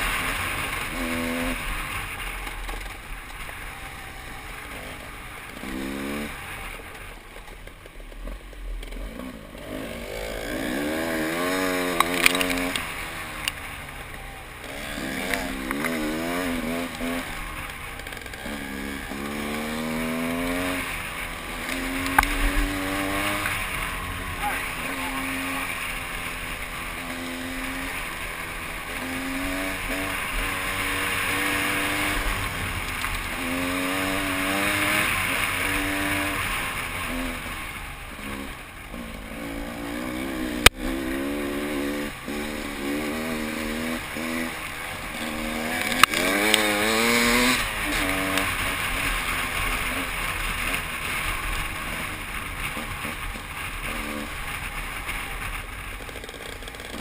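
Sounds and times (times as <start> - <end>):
dirt bike engine revving: 0.0 - 7.3, 8.2 - 57.0.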